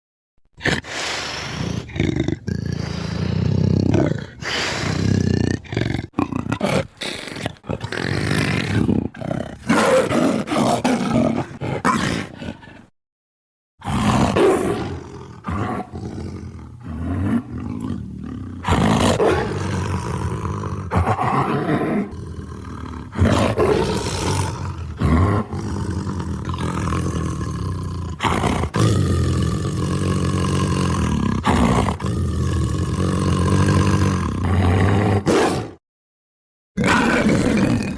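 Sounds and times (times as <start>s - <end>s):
big cat roars and growls: 1.6s - 12.9s, 13.8s - 35.8s, 36.8s - 37.9s.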